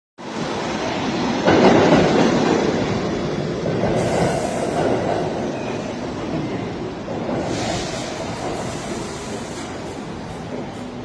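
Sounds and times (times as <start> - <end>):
subway train wheels rumbling: 0.2 - 11.0.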